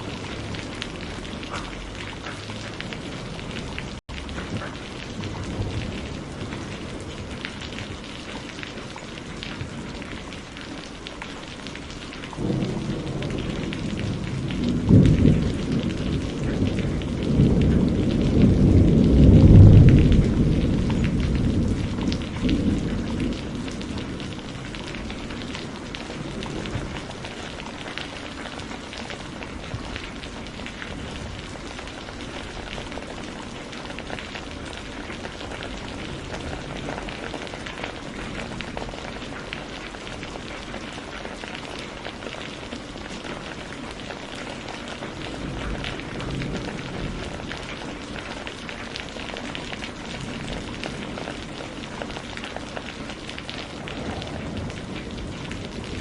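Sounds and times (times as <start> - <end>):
rolling thunder: 0.0 - 10.6, 11.8 - 42.2, 44.9 - 56.0
steady rain falling: 0.0 - 56.0.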